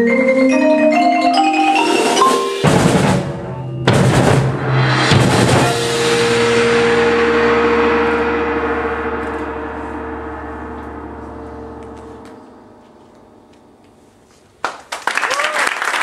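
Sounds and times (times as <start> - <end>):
percussion chord ringing: 0.0 - 14.6.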